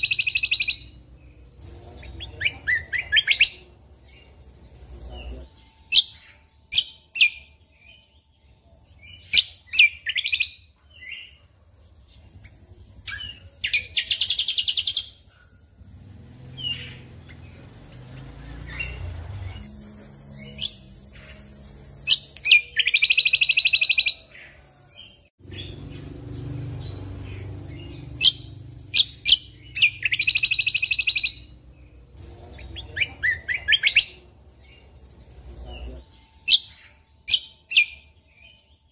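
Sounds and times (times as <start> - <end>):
songbird chirping and whistling: 0.0 - 11.5, 12.2 - 15.8, 16.4 - 38.9
buzzy bird trills: 0.0 - 11.6, 12.2 - 38.9.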